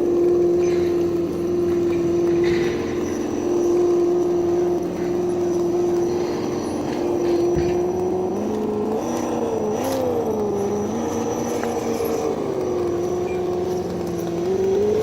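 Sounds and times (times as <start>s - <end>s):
simulated engine sound from speaker: 0.0s - 15.0s.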